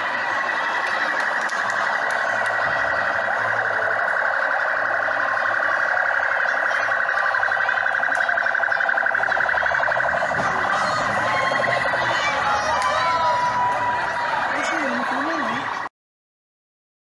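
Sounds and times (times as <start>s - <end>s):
electronic siren warbling: 0.0s - 15.9s.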